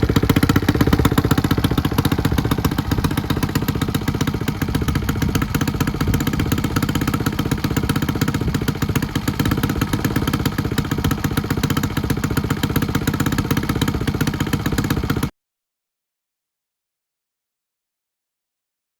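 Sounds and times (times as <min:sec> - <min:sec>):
motorcycle engine idling fast: 0:00.0 - 0:15.3.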